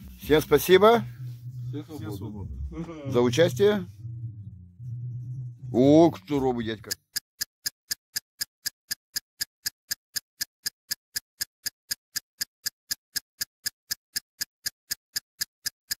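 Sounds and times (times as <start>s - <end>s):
mechanical ticking: 0.2s - 16.0s.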